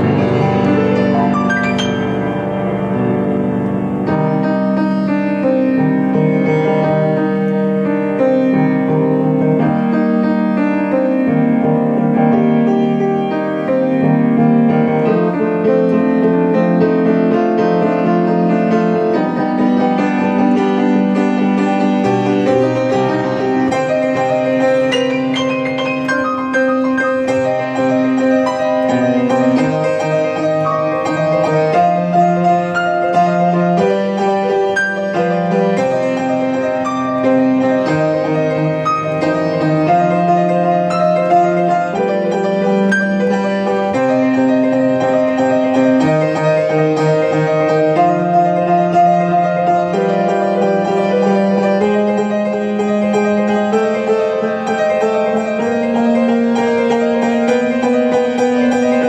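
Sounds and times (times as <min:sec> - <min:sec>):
fast solo piano piece: 0:00.0 - 0:59.0.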